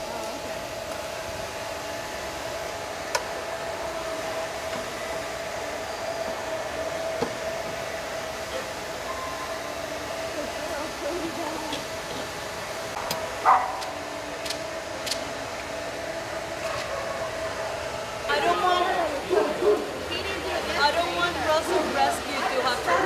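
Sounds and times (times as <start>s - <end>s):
blow dryer running: 0.0s - 23.0s.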